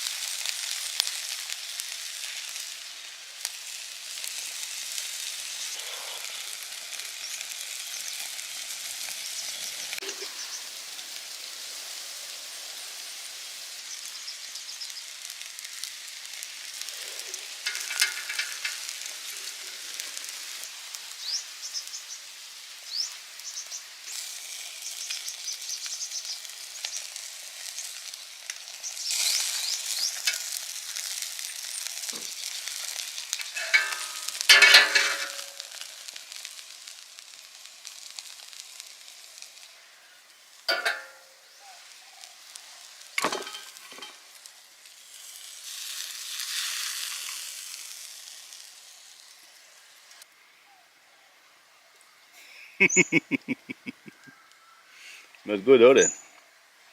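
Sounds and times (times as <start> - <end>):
fire popping: 0.0 - 50.3, 52.4 - 54.6
steak sizzling over fire: 0.0 - 56.9.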